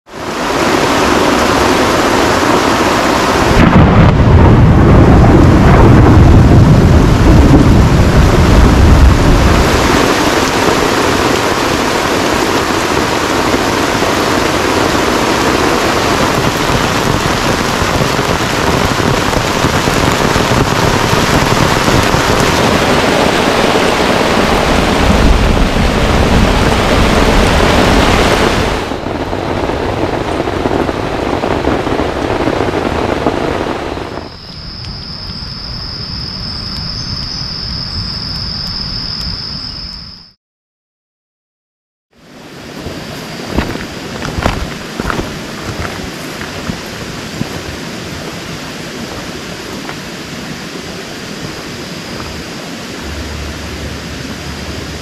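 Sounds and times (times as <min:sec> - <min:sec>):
heavy rain pouring: 0:00.1 - 0:39.7, 0:42.2 - 0:55.0
thunder rumbling: 0:00.2 - 0:39.5, 0:42.6 - 0:49.9.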